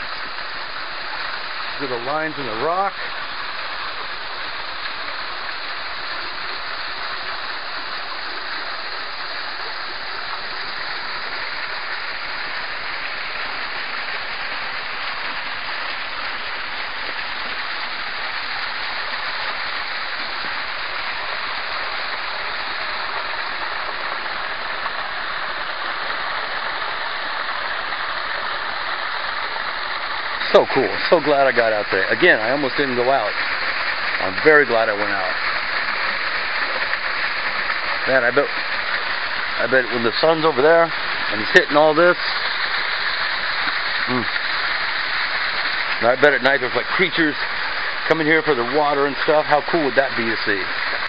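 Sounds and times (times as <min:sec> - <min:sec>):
waterfall splashing into pool: 0:00.0 - 0:51.0.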